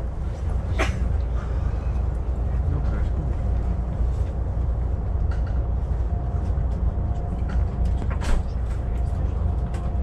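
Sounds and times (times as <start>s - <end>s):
train interior rumble: 0.0s - 10.0s.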